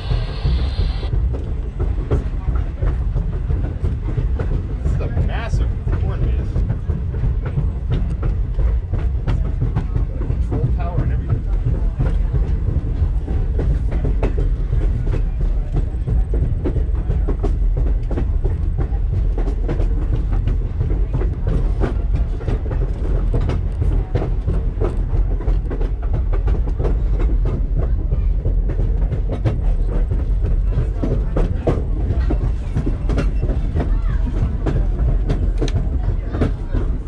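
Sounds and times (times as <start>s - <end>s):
train car rumbling on track: 0.0s - 37.0s
train wheels clicking and knocking: 0.0s - 37.0s.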